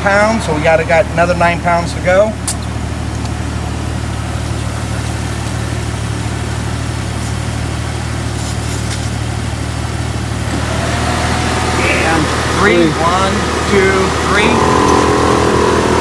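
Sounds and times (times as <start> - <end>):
air compressor droning: 0.0 - 16.0
vehicle engine idling: 0.0 - 16.0.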